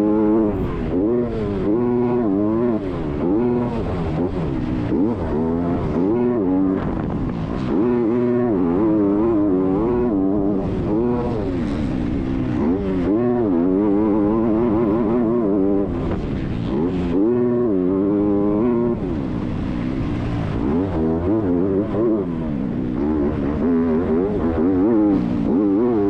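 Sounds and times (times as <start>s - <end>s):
motocross bike engine revving: 0.0s - 26.0s.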